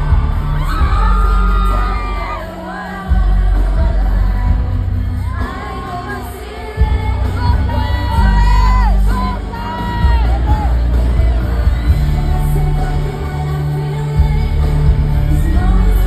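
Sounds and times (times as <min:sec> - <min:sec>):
crowd screaming and cheering: 0:00.0 - 0:16.0
person singing: 0:00.0 - 0:16.0
pop song with heavy bass beat: 0:00.0 - 0:16.0.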